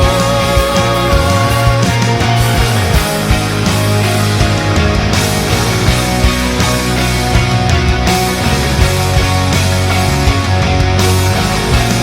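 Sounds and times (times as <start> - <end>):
distorted electric guitar: 0.0 - 12.0
steady drum beat: 0.0 - 12.0.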